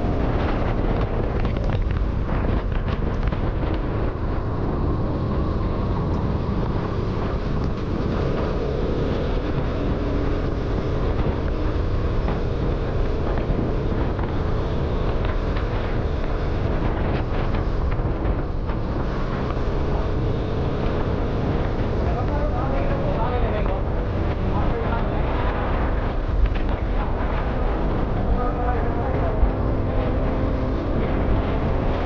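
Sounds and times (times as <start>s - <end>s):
motorcycle engine hum: 0.0s - 32.0s
wind buffeting microphone: 0.0s - 32.0s.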